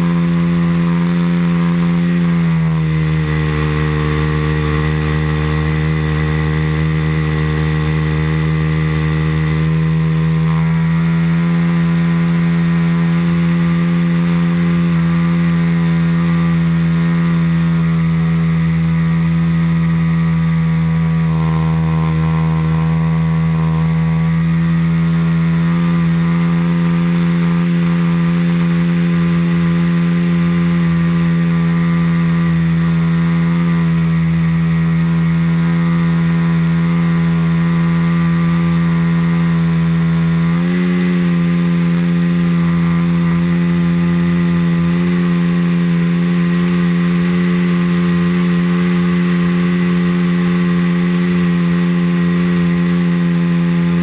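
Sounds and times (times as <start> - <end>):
model airplane engine running: 0.0 - 54.0.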